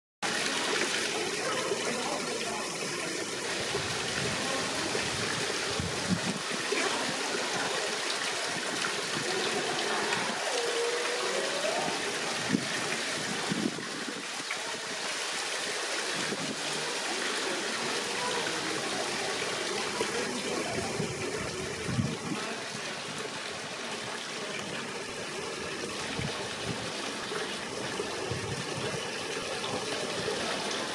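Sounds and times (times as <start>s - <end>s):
stream water trickling: 0.2s - 30.9s.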